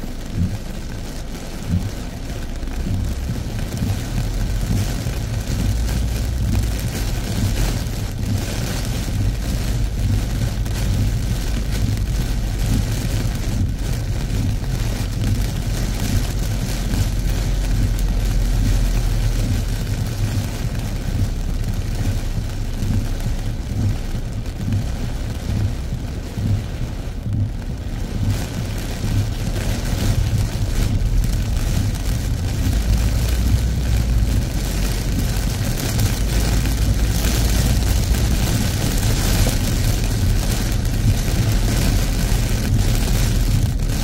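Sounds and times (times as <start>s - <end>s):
car rumbling on a wet road: 0.0s - 44.0s
heavy rain beating on a car: 0.0s - 44.0s.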